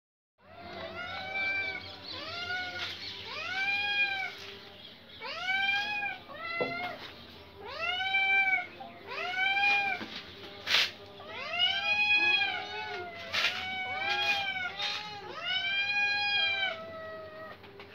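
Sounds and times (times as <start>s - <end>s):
cat yowling: 0.4s - 4.4s, 5.2s - 7.0s, 7.6s - 10.0s, 11.3s - 17.6s.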